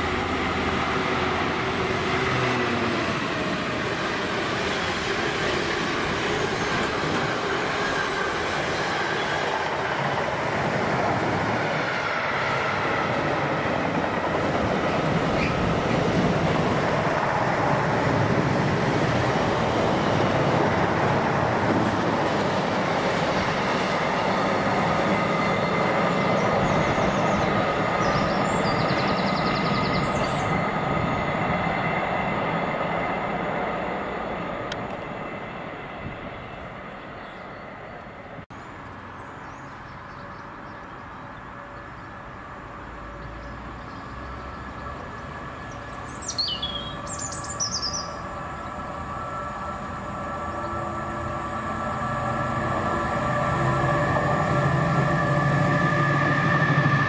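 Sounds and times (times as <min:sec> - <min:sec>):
freight train rolling on rails: 0:00.0 - 0:39.1, 0:39.7 - 0:57.0.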